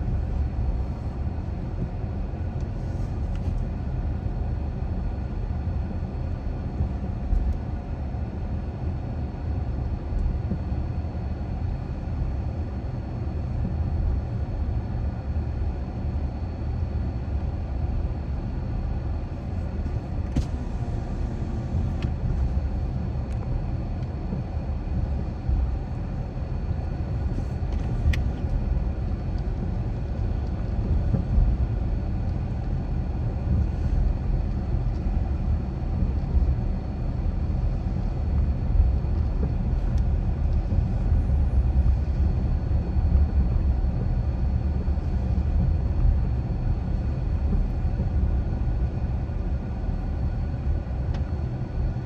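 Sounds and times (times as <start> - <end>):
car driving interior rumble: 0.0 - 8.9, 19.0 - 52.0.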